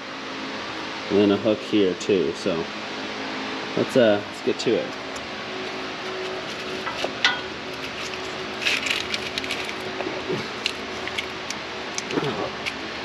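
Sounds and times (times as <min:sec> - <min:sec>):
steady fan hum: 0:00.0 - 0:13.0.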